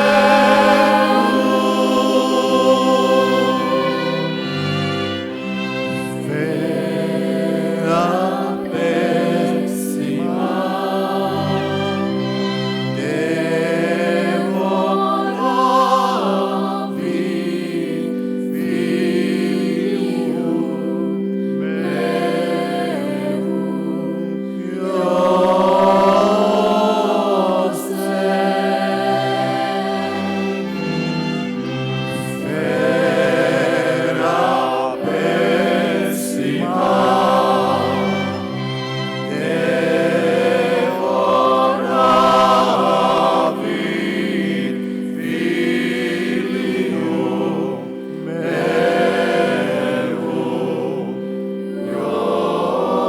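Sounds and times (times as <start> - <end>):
choir singing: 0.0 - 53.0.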